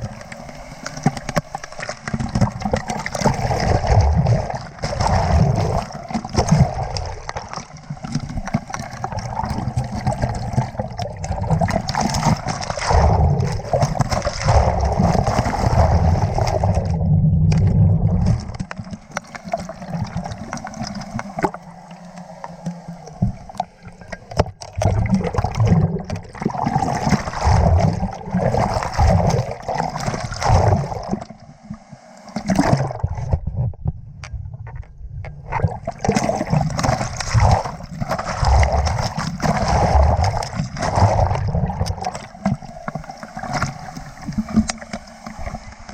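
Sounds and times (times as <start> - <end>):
water rushing and gurgling: 0.0 - 33.6, 35.3 - 45.9.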